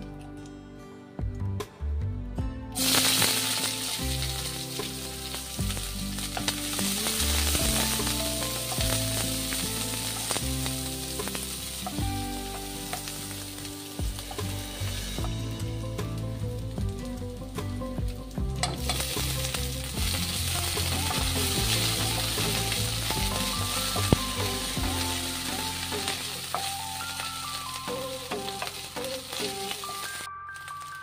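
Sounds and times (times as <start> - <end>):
onions sizzling in hot oil: 2.8 - 31.0.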